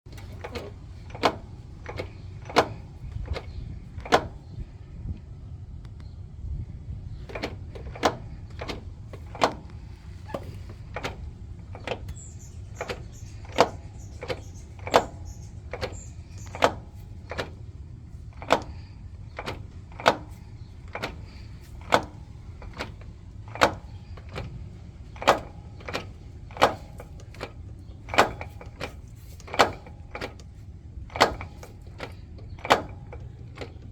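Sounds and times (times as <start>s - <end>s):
van engine rumble: 0.0s - 33.9s.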